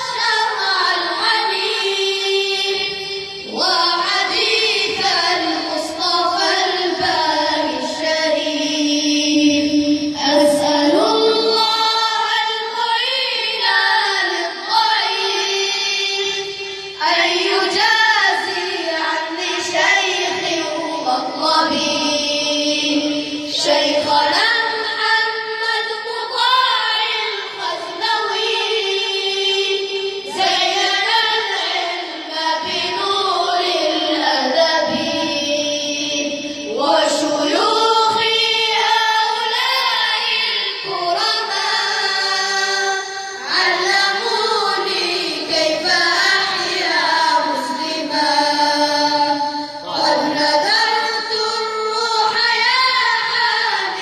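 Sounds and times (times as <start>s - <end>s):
children singing together: 0.0s - 54.0s.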